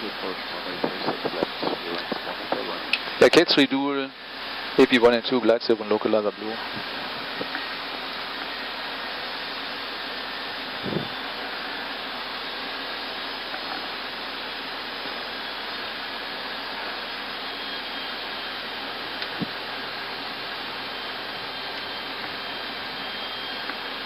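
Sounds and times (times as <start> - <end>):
airflow and air-conditioning hiss: 0.0 - 24.0.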